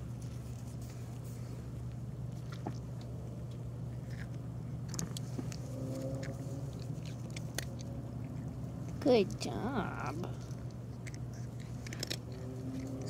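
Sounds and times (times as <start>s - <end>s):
steady low hum: 0.0s - 13.0s
cat chewing dry treat: 0.1s - 9.4s, 10.2s - 13.0s.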